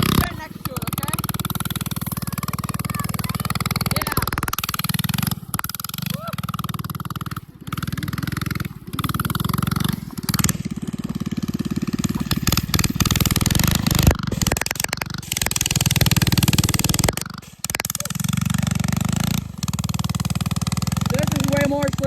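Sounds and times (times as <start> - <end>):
mini bike engine running: 0.0 - 22.0
sharp clicks and rattles: 0.0 - 22.0.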